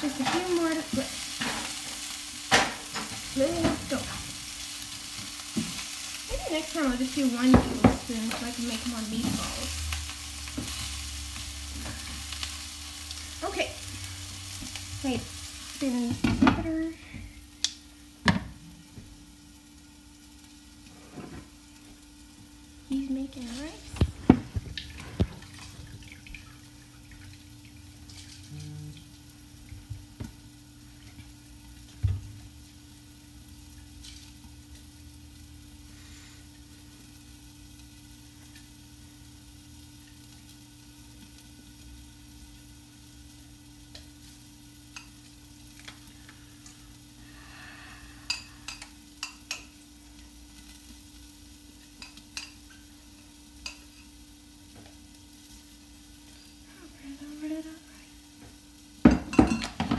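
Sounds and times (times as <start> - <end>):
faint frying sizzle: 0.0 - 59.9.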